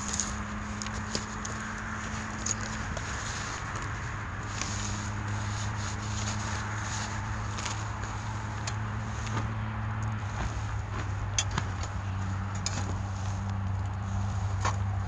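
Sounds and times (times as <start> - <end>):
low engine-like hum: 0.0 - 15.0.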